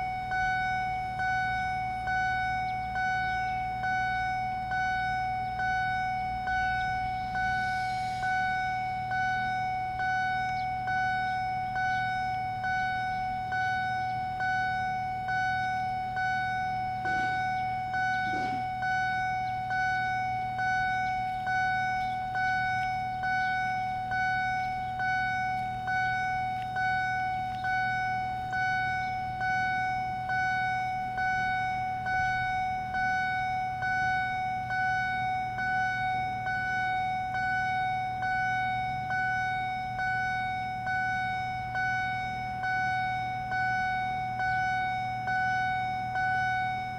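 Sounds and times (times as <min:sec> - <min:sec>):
level crossing warning bell: 0:00.0 - 0:46.9.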